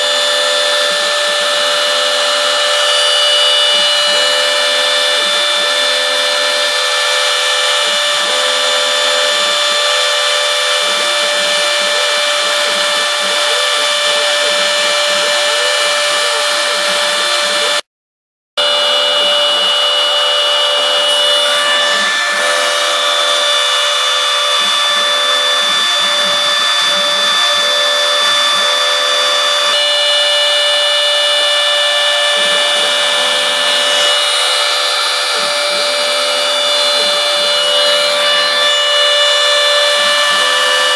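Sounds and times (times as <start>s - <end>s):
bit cutting foam hiss: 0.0s - 17.8s, 18.7s - 40.9s
mill spindle whining: 0.0s - 17.9s, 18.6s - 40.9s.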